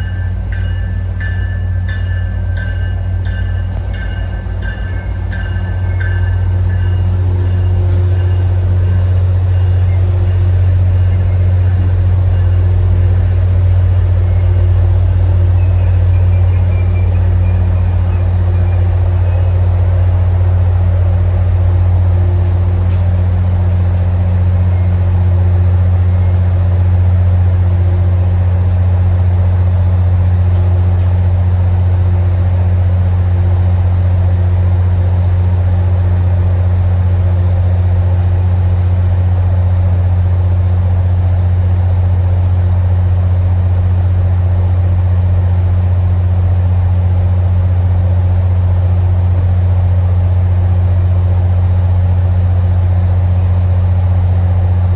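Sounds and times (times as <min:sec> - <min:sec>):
diesel locomotive idling: 0:00.0 - 0:54.9.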